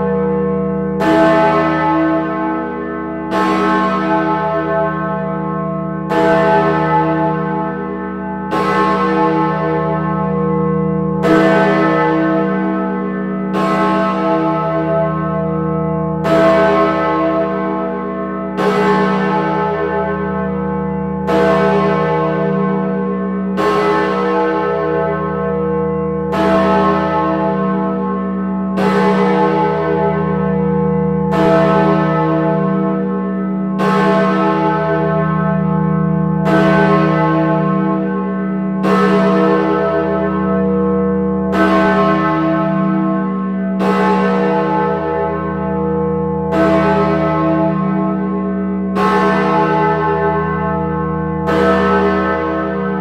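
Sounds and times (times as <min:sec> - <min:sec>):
large bell striking: 0:00.0 - 0:53.0.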